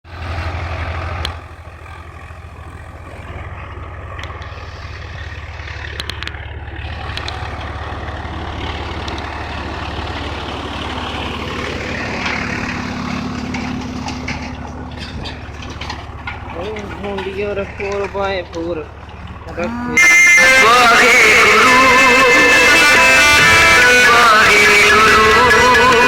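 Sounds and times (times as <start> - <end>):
tractor diesel engines running: 0.0 - 26.0.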